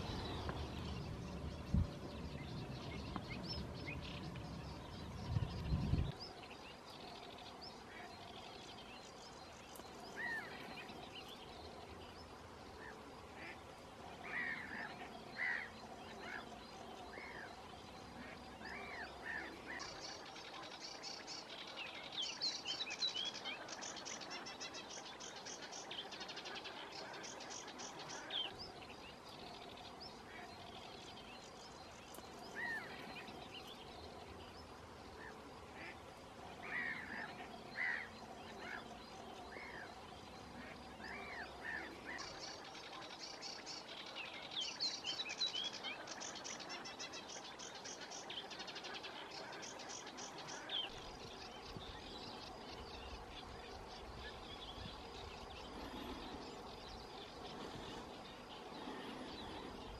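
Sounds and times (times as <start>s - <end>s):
faint steady background noise: 0.0s - 59.9s
waterbirds calling: 0.0s - 59.9s.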